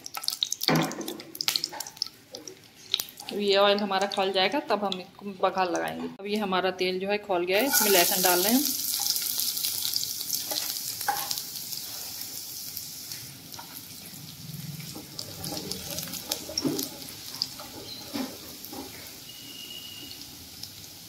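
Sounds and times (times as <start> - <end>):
garlic sizzling in hot oil: 0.0 - 5.0, 7.6 - 21.0.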